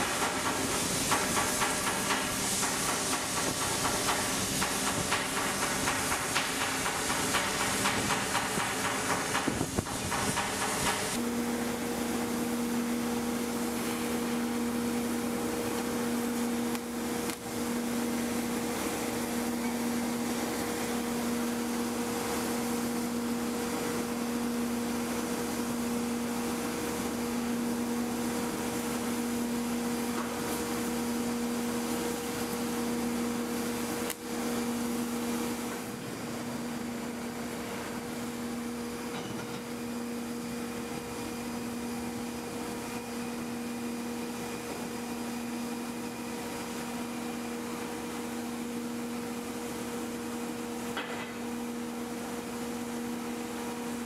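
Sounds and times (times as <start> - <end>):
machinery hum: 0.0 - 54.0.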